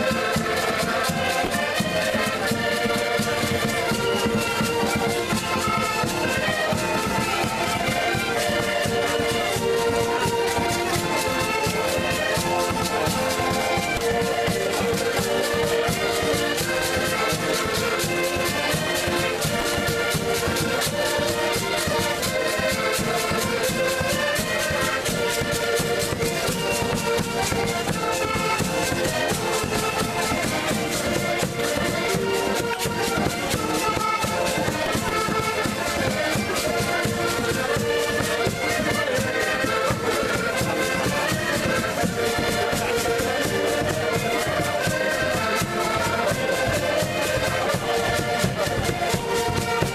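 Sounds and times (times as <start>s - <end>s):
accordions playing tune: 0.0s - 49.9s
strummed small guitar: 0.0s - 49.9s.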